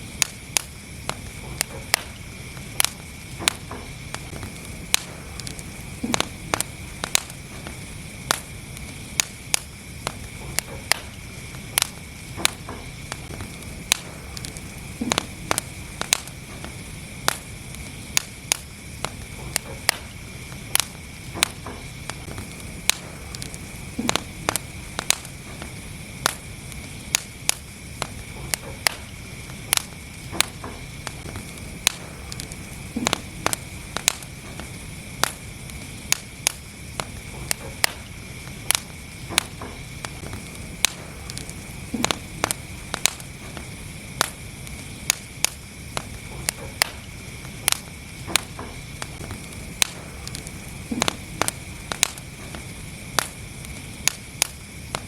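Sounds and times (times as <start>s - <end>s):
steady fire hiss: 0.0s - 55.0s
wood fire crackling: 0.0s - 55.0s.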